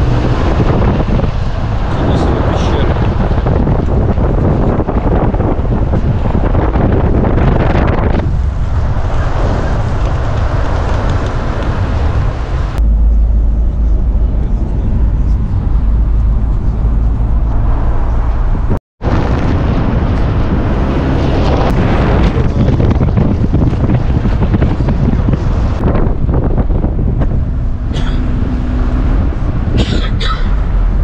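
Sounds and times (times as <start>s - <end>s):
heavy low rumble: 0.0s - 31.0s
vehicle road and engine noise: 0.0s - 31.0s
wind buffeting microphone: 0.0s - 31.0s.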